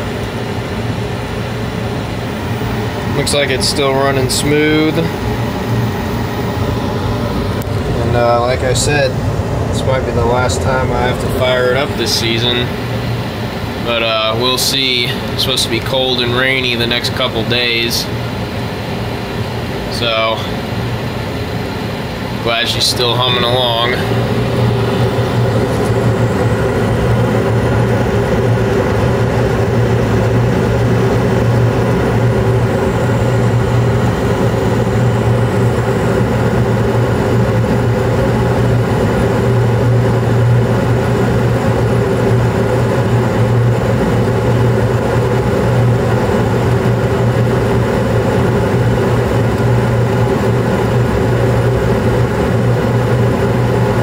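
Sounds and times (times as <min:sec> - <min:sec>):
gas furnace humming: 0:00.0 - 0:54.0.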